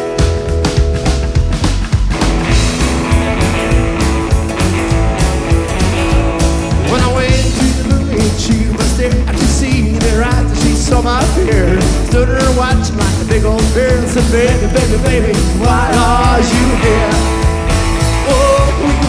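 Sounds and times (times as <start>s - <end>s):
rockabilly band playing: 0.0s - 19.0s.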